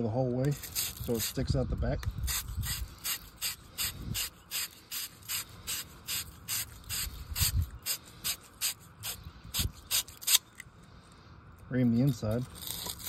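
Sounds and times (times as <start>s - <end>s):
wire brush scouring copper pipe: 0.5s - 1.6s, 2.2s - 10.6s, 11.9s - 13.0s.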